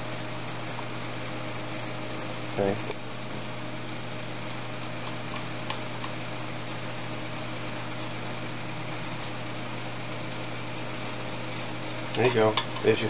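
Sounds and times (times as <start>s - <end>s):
workshop room hum and hiss: 0.0s - 13.0s.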